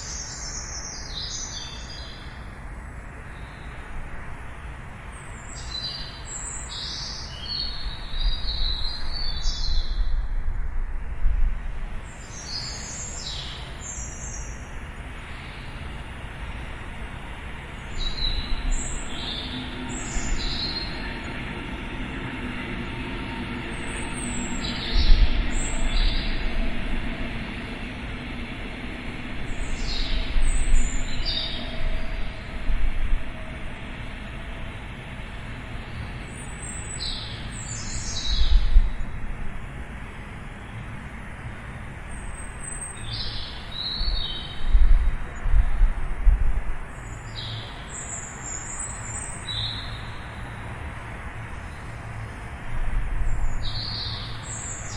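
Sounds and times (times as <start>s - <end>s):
distant city rumble: 0.0s - 54.9s.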